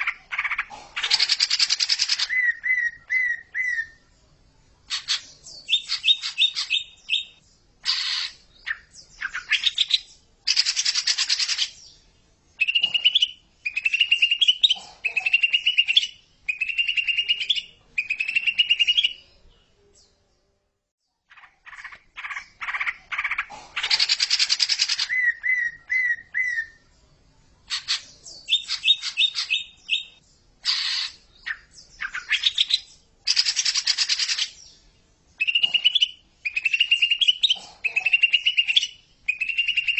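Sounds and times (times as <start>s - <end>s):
bird song with chattering and whistles: 0.0s - 4.2s, 4.8s - 27.0s, 27.6s - 39.9s.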